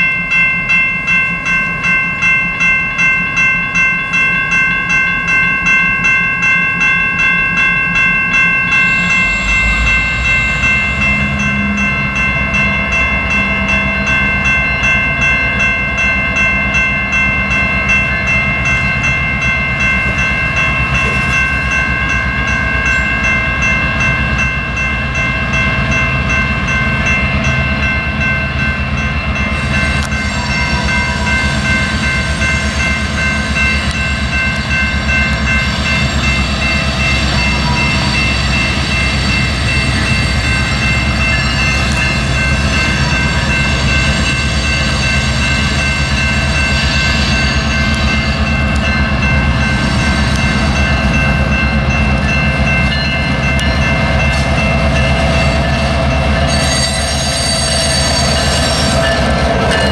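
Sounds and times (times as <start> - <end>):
bell ringing: 0.0 - 59.9
diesel locomotive engine rumble: 0.0 - 59.9.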